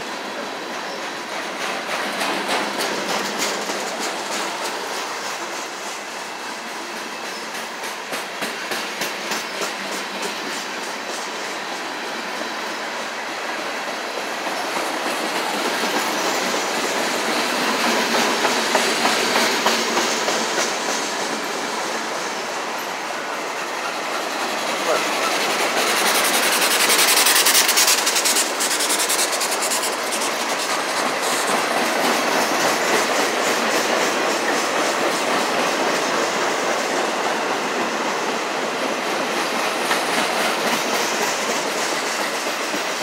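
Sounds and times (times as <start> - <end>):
wheels clacking over rail joints: 0.0 - 43.0.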